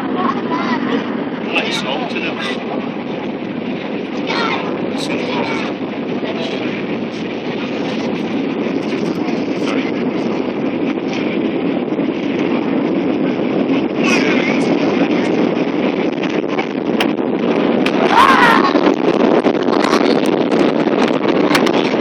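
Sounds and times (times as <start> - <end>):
aircraft cabin engine rush: 0.0 - 22.0.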